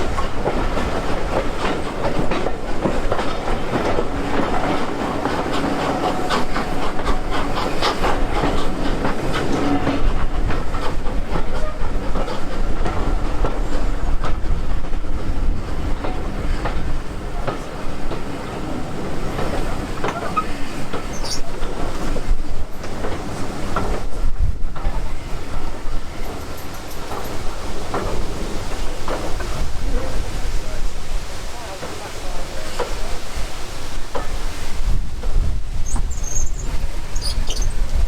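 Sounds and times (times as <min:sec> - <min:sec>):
train wheels clicking over rail joints: 0:00.0 - 0:38.0.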